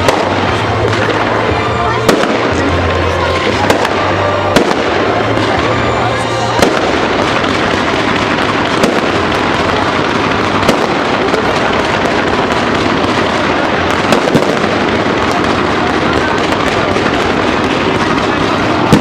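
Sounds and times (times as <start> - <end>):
firework bangs: 0.0 - 19.0
fireworks crackling: 0.0 - 19.0.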